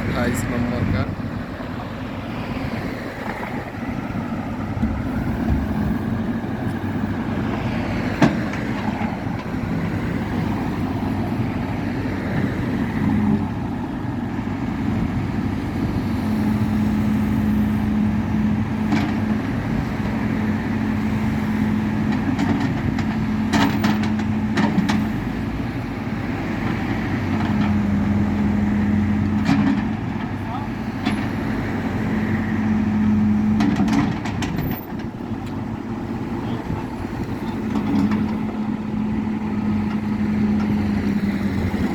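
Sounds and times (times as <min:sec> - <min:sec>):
vehicle engine and road drone: 0:00.0 - 0:41.9.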